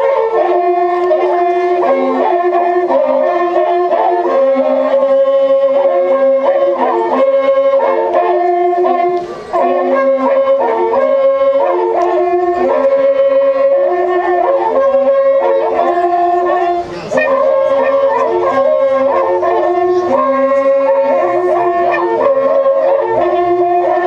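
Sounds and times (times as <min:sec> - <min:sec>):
horn trumpets long held notes: 0:00.0 - 0:24.0.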